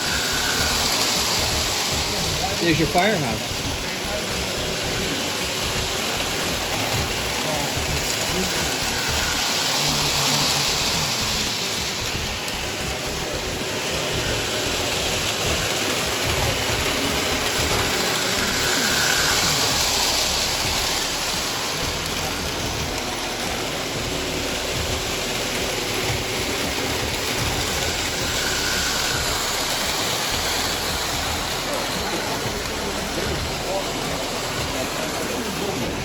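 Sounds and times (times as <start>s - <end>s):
din of a busy hall: 0.0s - 36.0s
model trains rumbling: 0.0s - 36.0s.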